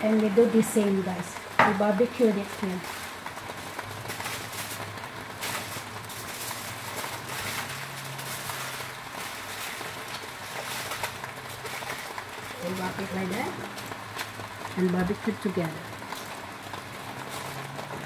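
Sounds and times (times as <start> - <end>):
aluminium foil crinkling: 0.0 - 18.0
fish sizzling in foil: 0.0 - 18.0.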